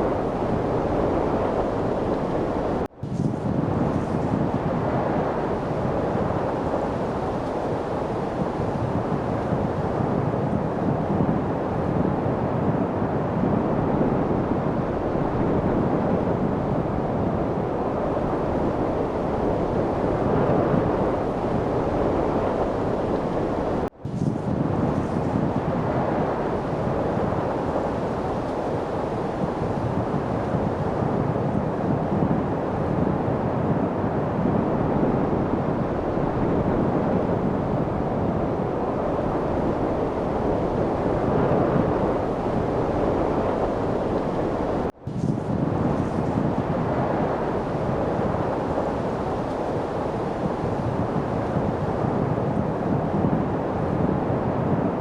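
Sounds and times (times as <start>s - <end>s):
rushing wind: 0.0s - 55.0s.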